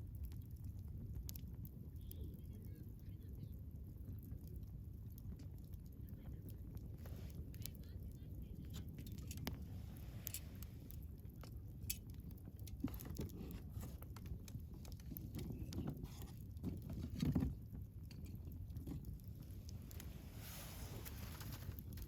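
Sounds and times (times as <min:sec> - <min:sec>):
campfire crackling and popping: 0:00.0 - 0:22.0
low rumble of flame: 0:00.0 - 0:22.0.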